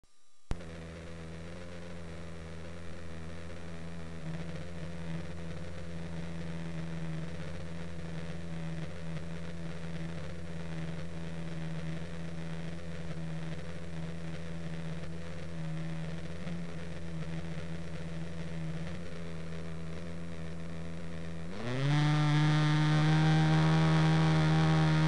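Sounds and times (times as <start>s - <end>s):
model helicopter engine running: 0.5s - 25.0s.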